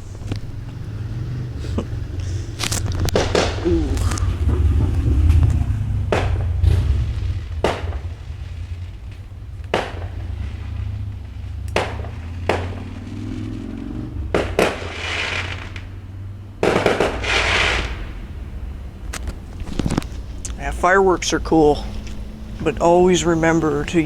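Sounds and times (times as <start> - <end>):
low hum: 0.0 - 14.9, 15.6 - 24.0
fireworks bangs: 0.0 - 24.0
fireworks crackling: 0.0 - 24.0.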